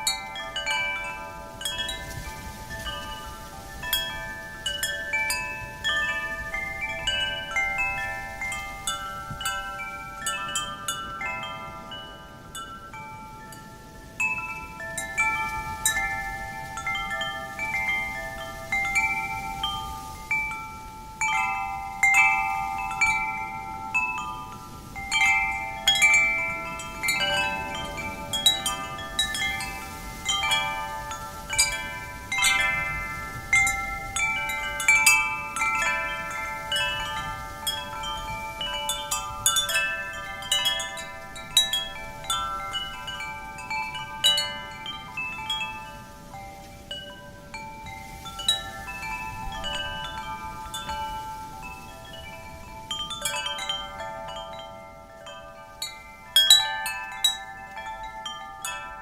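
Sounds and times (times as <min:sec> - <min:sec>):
soft wind rush: 0:00.0 - 0:59.0
wind chimes ringing: 0:00.0 - 0:59.0.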